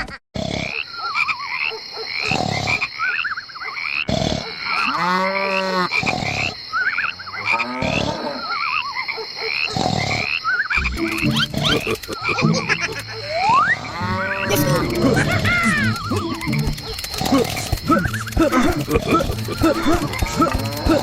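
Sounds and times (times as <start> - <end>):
frogs croaking: 0.4 - 21.0.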